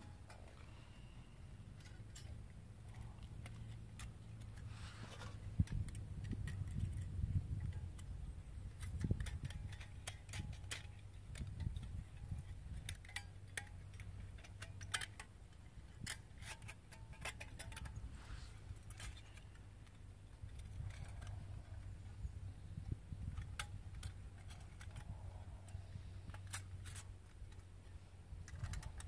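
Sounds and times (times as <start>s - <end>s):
thin metal parts clinking: 0.0s - 29.0s.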